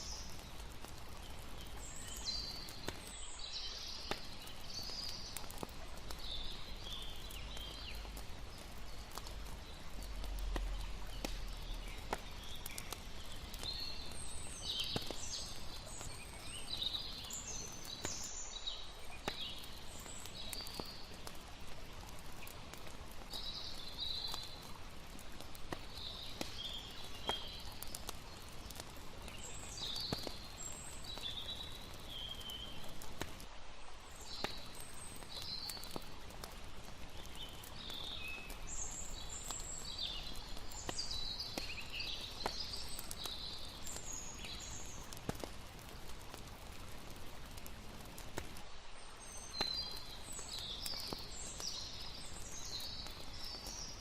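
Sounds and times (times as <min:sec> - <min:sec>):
campfire crackling and popping: 0:00.0 - 0:54.0
running water hiss: 0:00.0 - 0:54.0.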